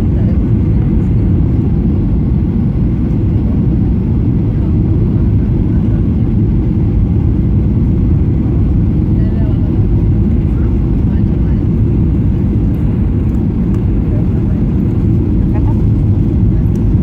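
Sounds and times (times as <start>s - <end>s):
airliner engine rumble in cabin: 0.0s - 17.0s.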